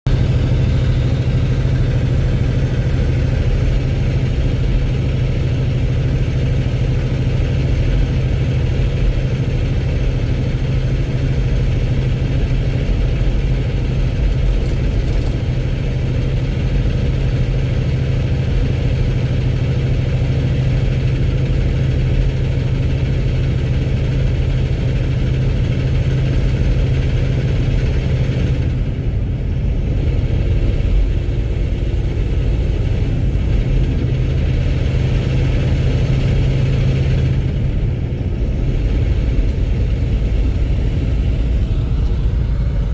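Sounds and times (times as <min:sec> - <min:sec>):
diesel engine knocking clatter: 0:00.0 - 0:42.9.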